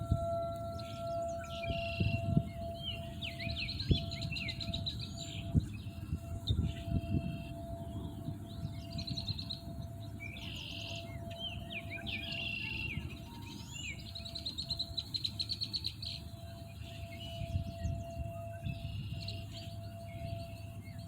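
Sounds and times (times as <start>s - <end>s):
faint steady tone: 0.0s - 21.0s
songbirds singing: 0.0s - 21.0s.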